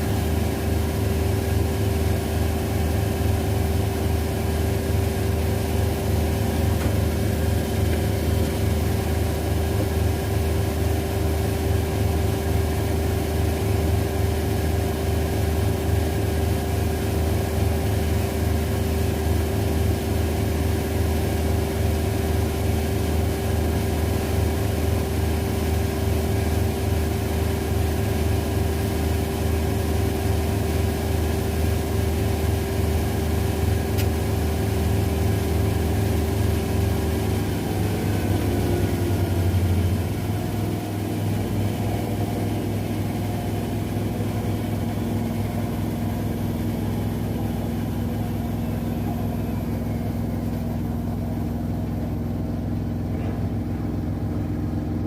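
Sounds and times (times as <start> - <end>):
washing machines spinning: 0.0 - 55.0.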